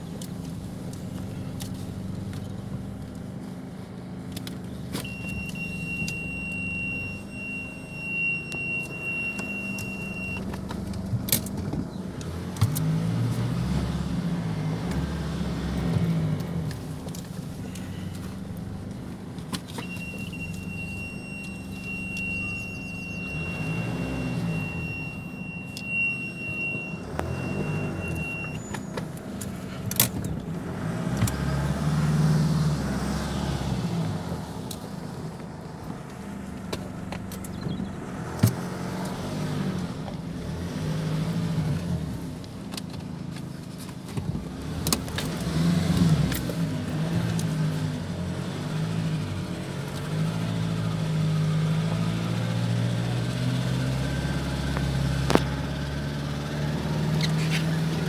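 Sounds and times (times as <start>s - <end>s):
diesel pickup engine revving: 0.0s - 58.0s.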